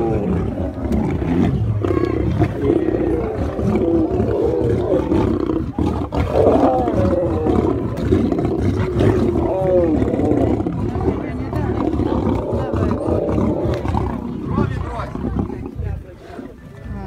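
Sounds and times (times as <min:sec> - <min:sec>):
lions roaring: 0:00.0 - 0:16.5.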